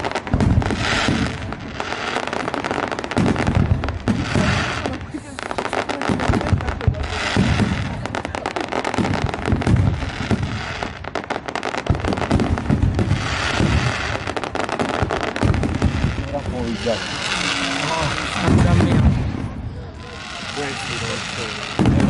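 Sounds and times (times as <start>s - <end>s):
fireworks booming: 0.0s - 22.0s
fireworks crackling: 0.0s - 22.0s.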